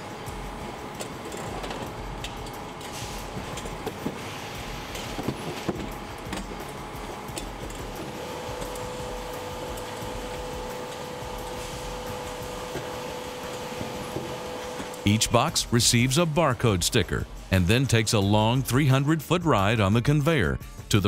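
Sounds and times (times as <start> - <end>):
machinery hum: 0.0 - 20.1.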